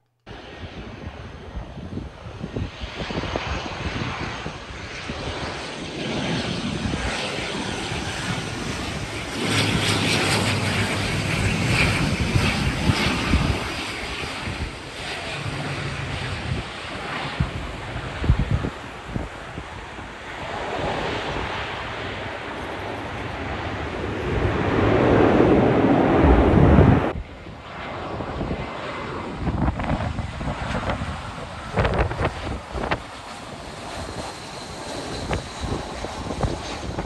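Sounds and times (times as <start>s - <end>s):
turboprop airliner droning overhead: 0.0s - 37.0s.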